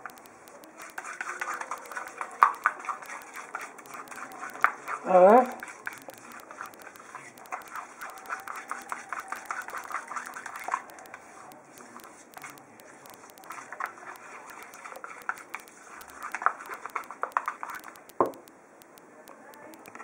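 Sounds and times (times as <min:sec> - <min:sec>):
paste stirred by hand in bowl: 0:00.0 - 0:18.5.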